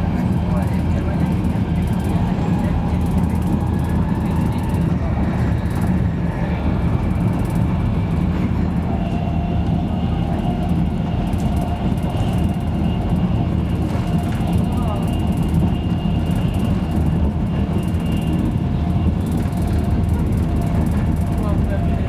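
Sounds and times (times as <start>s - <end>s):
train running rumble: 0.0s - 22.0s.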